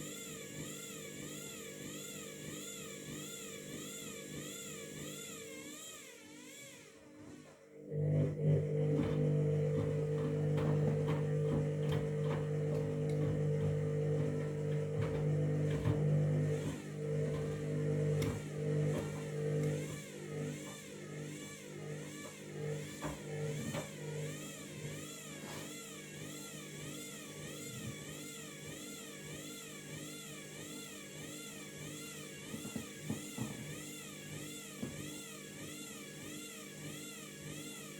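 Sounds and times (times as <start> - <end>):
washing machine motor hum: 0.0 - 37.9.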